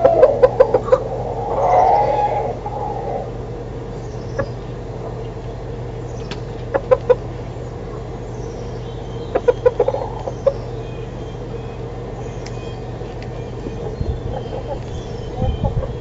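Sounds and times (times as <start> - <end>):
chickens clucking: 0.0 - 16.0
steady low hum: 0.0 - 16.0.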